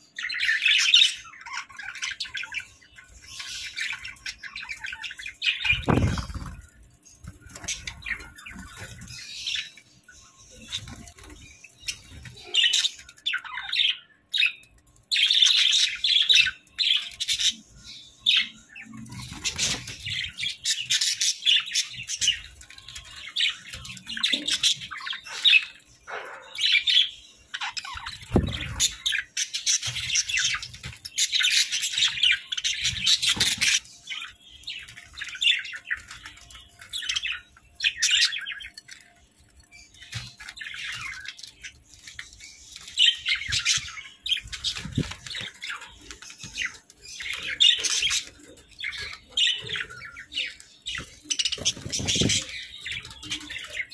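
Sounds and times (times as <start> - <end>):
budgerigars chirping: 0.2 - 14.6, 15.2 - 53.9.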